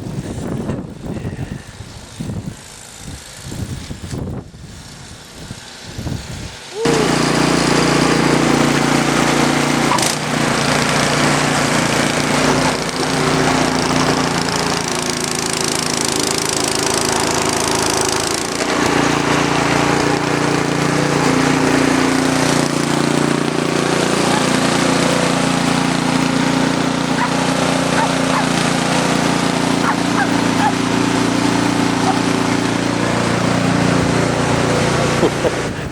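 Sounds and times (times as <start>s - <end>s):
snow blower engine running: 0.0s - 35.9s.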